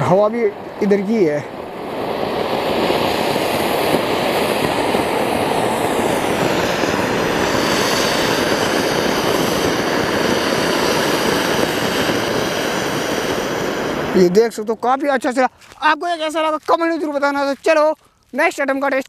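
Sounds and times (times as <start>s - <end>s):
firework fountain hissing: 0.0s - 19.0s.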